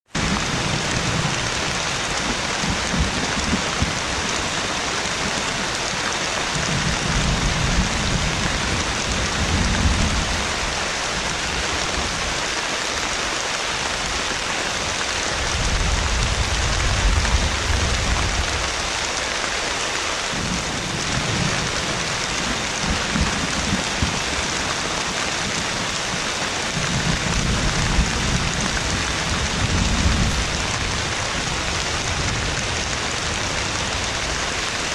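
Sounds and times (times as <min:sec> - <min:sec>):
heavy rain pouring: 0:00.1 - 0:34.9
low rolling thunder: 0:00.2 - 0:12.2, 0:15.3 - 0:19.0, 0:20.3 - 0:34.8.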